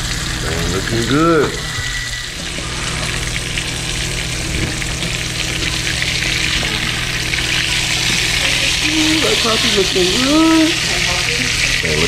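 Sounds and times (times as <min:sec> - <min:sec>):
fish frying in grease: 0:00.0 - 0:12.0
low hum: 0:00.0 - 0:12.0.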